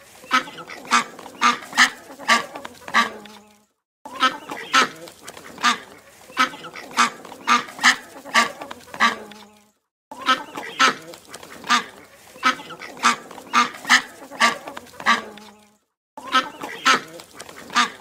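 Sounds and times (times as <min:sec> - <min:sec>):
goose honking: 0:00.2 - 0:03.5, 0:04.1 - 0:15.6, 0:16.2 - 0:18.0.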